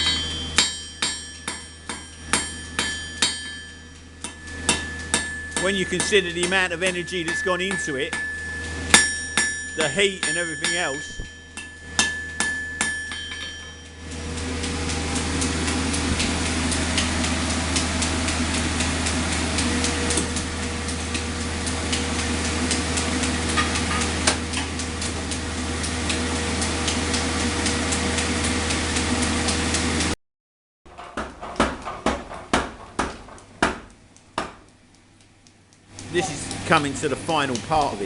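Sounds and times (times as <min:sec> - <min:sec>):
power hammer pounding steel: 0:00.0 - 0:28.6, 0:30.9 - 0:34.7
machine hum: 0:00.0 - 0:30.2, 0:30.9 - 0:38.0.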